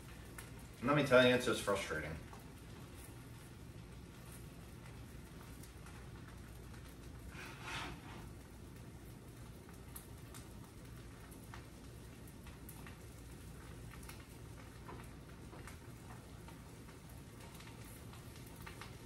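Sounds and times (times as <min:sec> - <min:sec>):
eggs popping and crackling in pan: 0:00.0 - 0:19.0.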